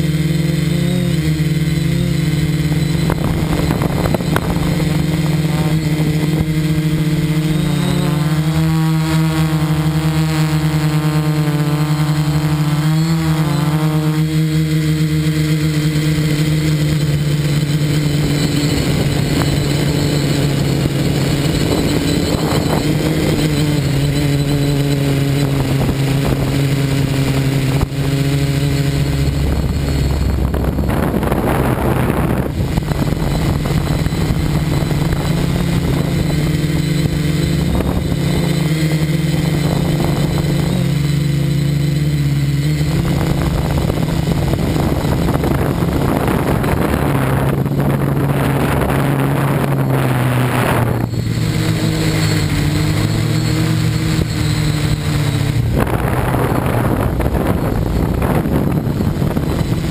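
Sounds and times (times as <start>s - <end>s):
drone propellers humming: 0.0s - 59.9s
rough rush of noise: 0.0s - 59.9s.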